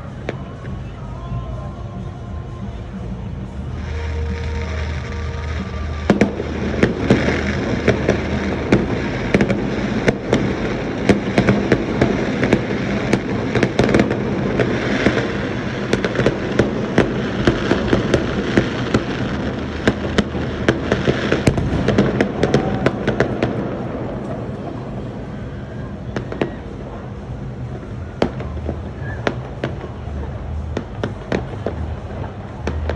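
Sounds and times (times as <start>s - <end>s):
fireworks crackling din: 0.0s - 32.9s
fireworks cracks and pops: 3.7s - 24.9s, 27.6s - 32.9s.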